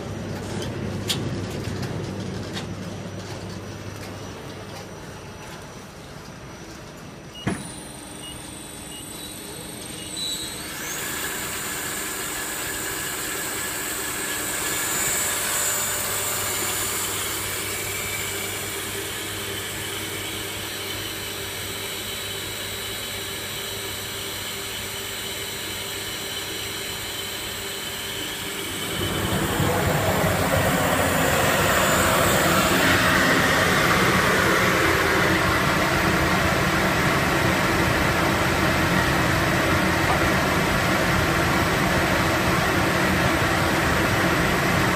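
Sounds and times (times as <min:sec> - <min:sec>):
machine hum with motor tones: 0:00.0 - 0:44.9.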